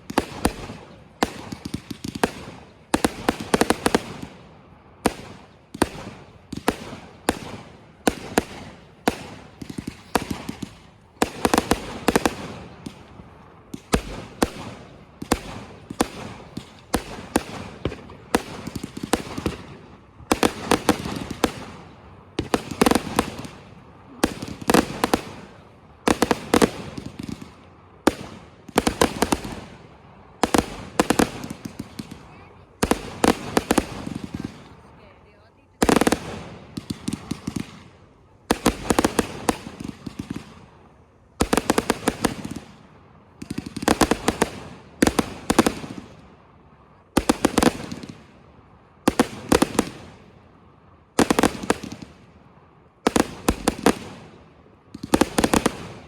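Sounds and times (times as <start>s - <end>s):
fireworks bangs: 0.0s - 46.2s, 47.0s - 50.4s, 51.1s - 56.0s
fireworks crackling: 0.0s - 56.0s.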